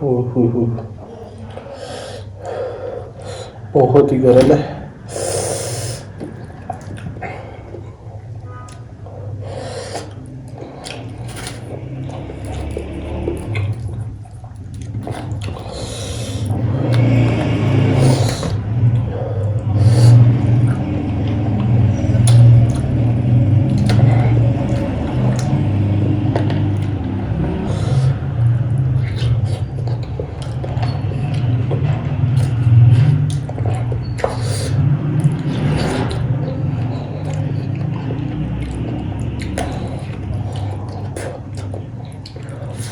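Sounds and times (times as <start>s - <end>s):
loud steady low hum: 0.0s - 42.9s
wet chewing: 0.8s - 42.9s
slurping and sucking: 1.0s - 42.9s.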